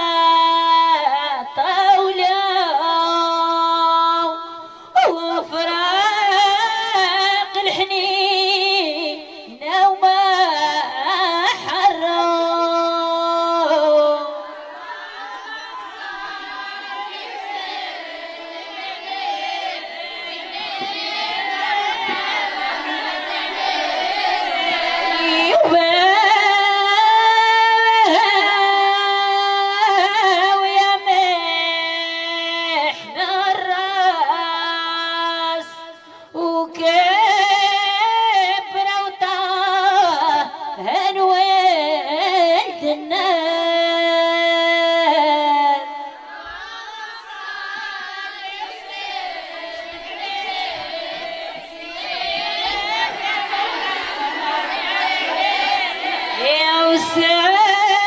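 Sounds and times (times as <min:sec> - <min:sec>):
woman singing unaccompanied chant: 0:00.0 - 0:58.0.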